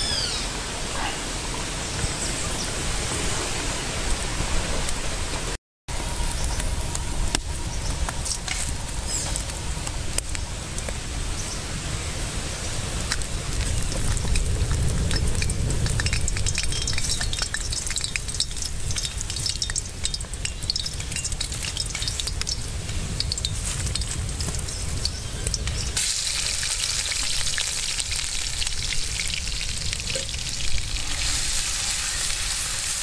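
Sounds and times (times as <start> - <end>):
hot oil sizzling and popping: 5.9 - 33.0.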